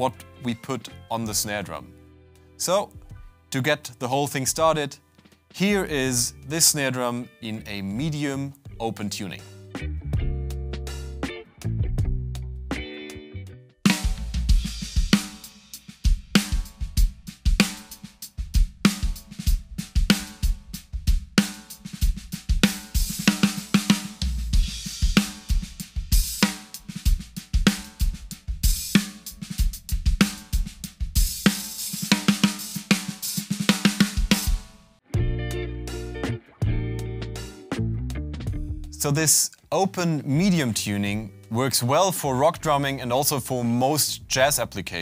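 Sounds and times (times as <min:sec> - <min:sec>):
drum kit groove: 0:04.4 - 0:07.0, 0:08.0 - 0:13.0, 0:13.8 - 0:45.0.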